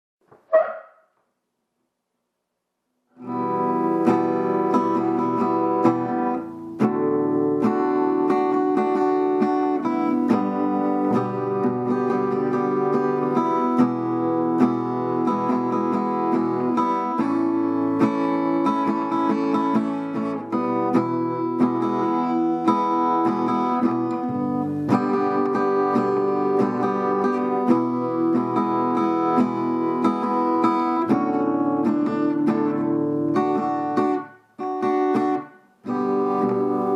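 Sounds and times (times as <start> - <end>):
strummed acoustic guitar: 3.2 - 36.9.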